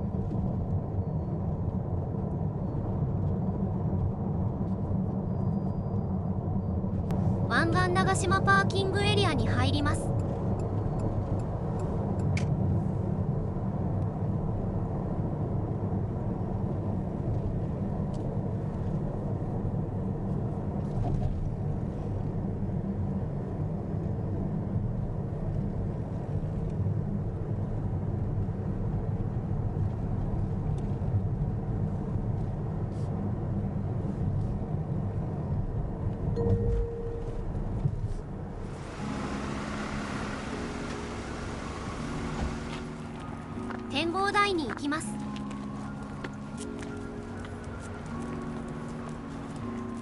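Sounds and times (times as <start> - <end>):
car road rumble: 0.0 - 50.0.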